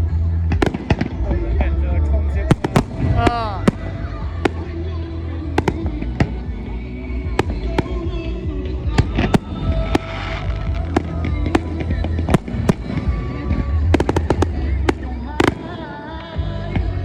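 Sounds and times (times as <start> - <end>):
low rumble: 0.0 - 15.7
fireworks bangs: 0.6 - 16.4.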